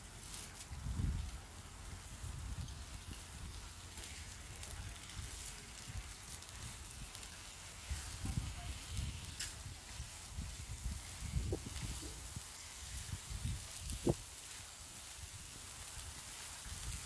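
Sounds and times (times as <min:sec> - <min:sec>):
food sizzling on tray: 0:00.0 - 0:17.0.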